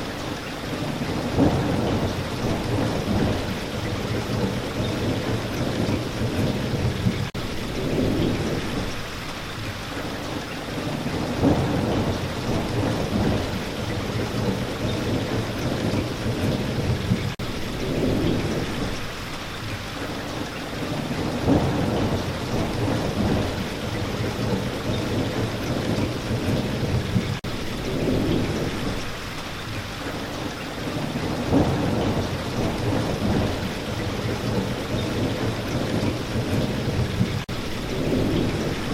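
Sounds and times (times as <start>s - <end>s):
steady rain: 0.0s - 38.9s
rolling thunder rumbles: 0.6s - 38.9s.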